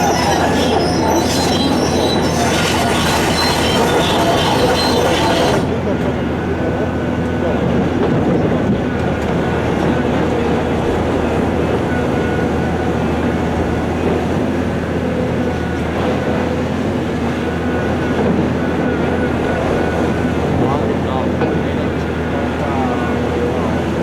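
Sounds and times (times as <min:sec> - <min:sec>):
diesel engines rumbling: 0:00.0 - 0:24.0.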